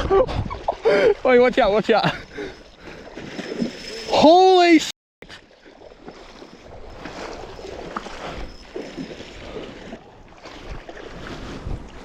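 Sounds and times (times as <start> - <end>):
floodwater sloshing and splashing: 0.0 - 4.4, 5.2 - 12.0.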